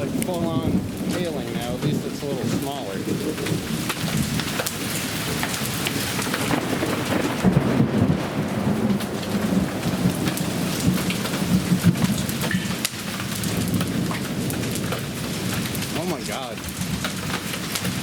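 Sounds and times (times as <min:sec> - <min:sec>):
hail pelting down: 0:00.0 - 0:18.0.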